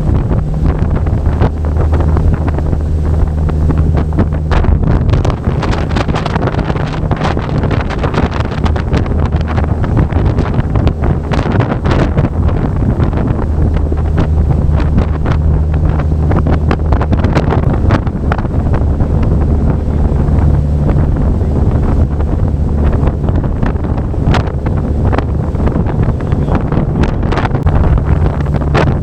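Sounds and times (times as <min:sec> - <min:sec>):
boat engine droning: 0:00.0 - 0:29.0
wind buffeting microphone: 0:00.0 - 0:29.0.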